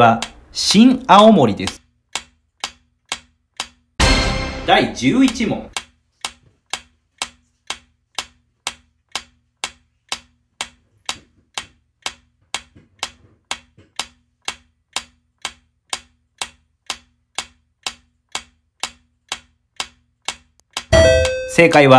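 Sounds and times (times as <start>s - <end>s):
clock-like timer ticks: 0.0s - 21.9s.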